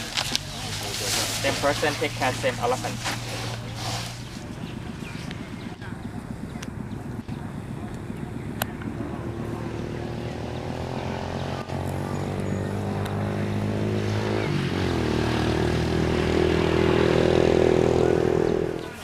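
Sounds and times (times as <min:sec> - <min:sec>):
motor engine running: 0:00.0 - 0:19.0.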